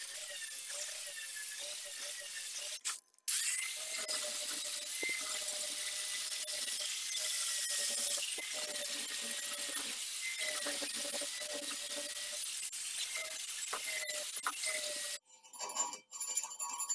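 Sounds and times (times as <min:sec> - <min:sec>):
angle grinder whining: 0:00.0 - 0:15.2.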